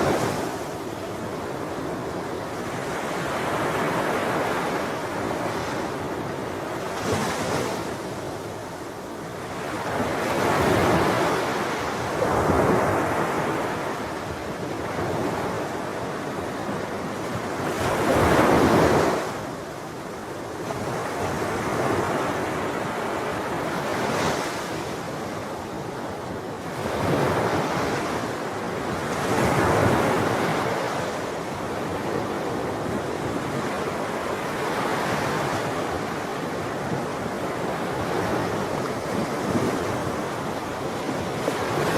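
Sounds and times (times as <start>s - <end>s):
ocean waves breaking on shore: 0.0s - 41.9s
wind rumble on microphone: 0.0s - 41.9s.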